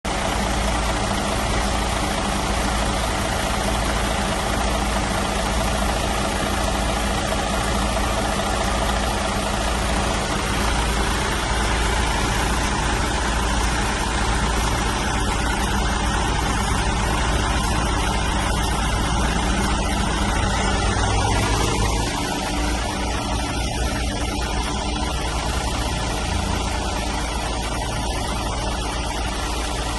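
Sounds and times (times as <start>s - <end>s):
diesel engine idling: 0.1s - 29.9s.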